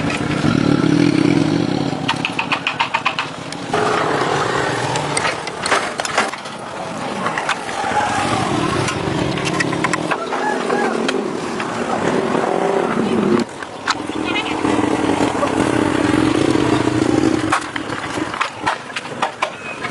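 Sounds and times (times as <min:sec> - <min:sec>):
engine running unevenly: 0:00.0 - 0:19.9.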